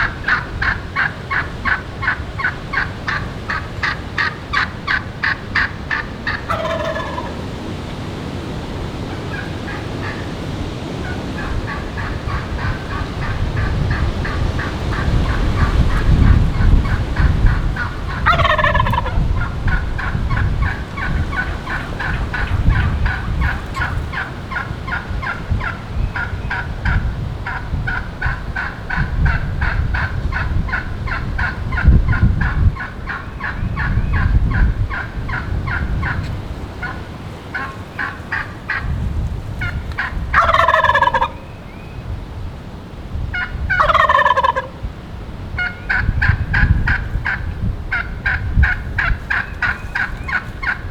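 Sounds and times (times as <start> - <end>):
turkey gobbling: 0.0 - 39.0, 39.6 - 41.9, 43.3 - 44.8, 45.6 - 50.9
wind rumbling on microphone: 0.0 - 50.9.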